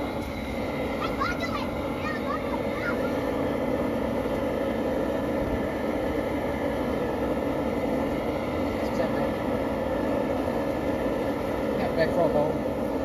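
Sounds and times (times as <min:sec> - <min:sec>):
gas jet burner rushing: 0:00.0 - 0:13.0.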